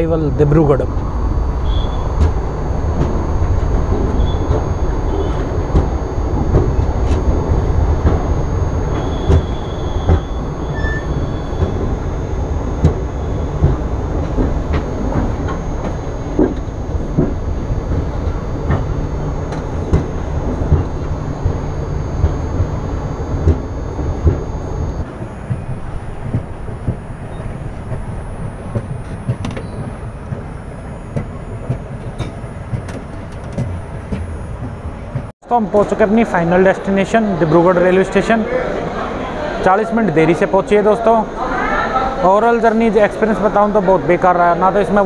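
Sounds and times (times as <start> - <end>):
train low rumble: 0.0 - 39.6.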